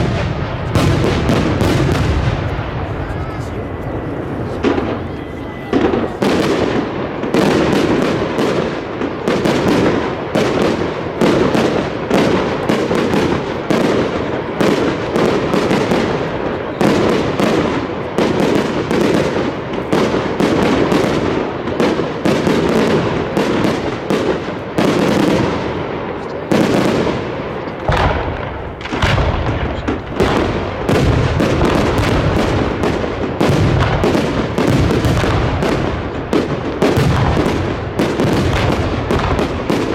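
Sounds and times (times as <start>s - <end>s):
deep firework booms: 0.0s - 39.9s
fireworks bangs and crackles: 0.0s - 39.9s.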